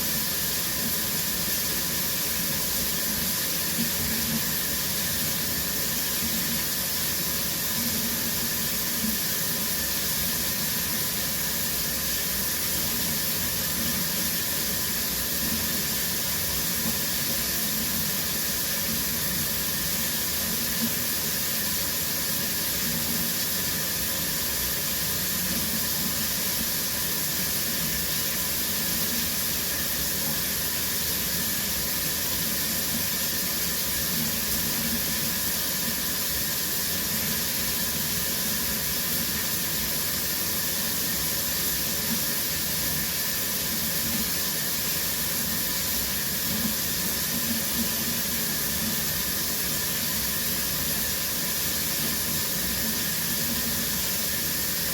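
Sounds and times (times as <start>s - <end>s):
shower water spraying: 0.0s - 54.9s.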